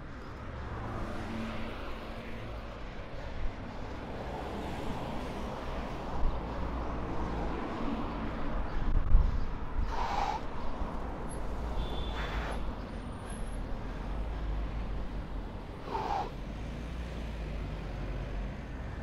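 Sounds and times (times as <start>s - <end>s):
passing cars: 0.0s - 19.0s
wind and road noise rumble: 0.0s - 19.0s.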